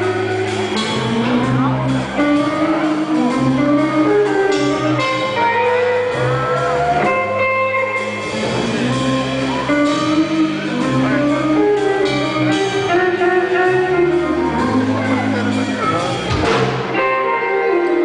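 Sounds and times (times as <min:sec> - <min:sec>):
drums: 0:00.0 - 0:18.0
electric guitar: 0:00.0 - 0:18.0
live band playing rockabilly: 0:00.0 - 0:18.0
plucked upright bass: 0:00.0 - 0:18.0.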